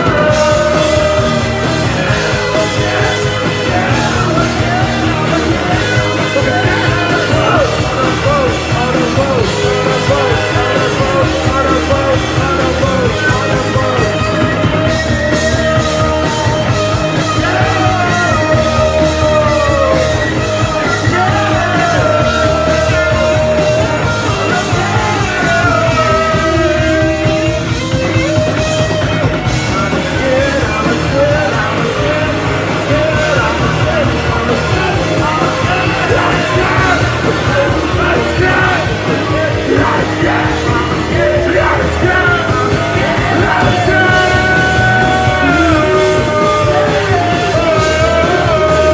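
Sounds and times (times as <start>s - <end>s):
person singing: 0.0s - 48.9s
punk rock band playing loudly: 0.0s - 48.9s.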